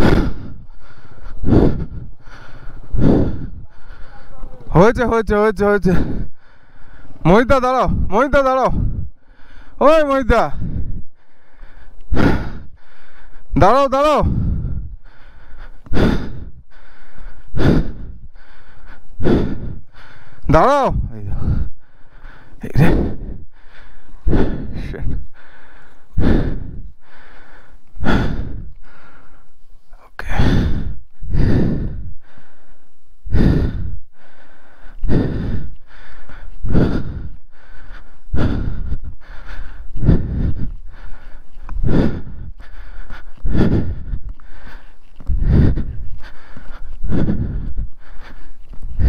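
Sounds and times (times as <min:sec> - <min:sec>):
person breathing hard: 0:00.0 - 0:05.0, 0:05.6 - 0:08.1, 0:08.7 - 0:49.0.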